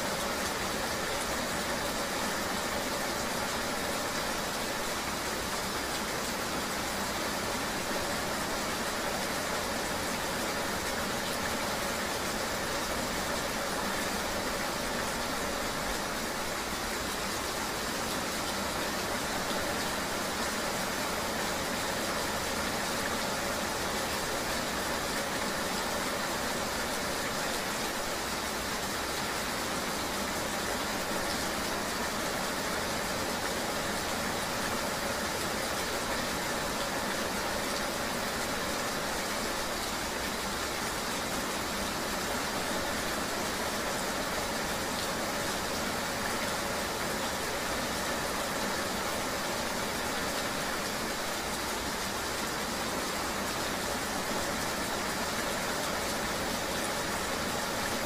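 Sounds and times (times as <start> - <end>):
rain rushing: 0.0 - 58.0.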